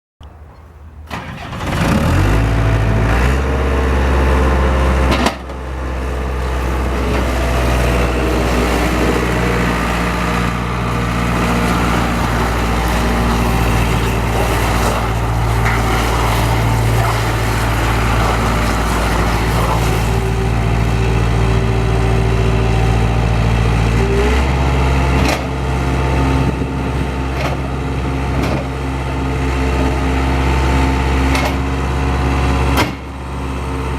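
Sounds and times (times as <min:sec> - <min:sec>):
skid steer engine running: 0:01.1 - 0:33.9.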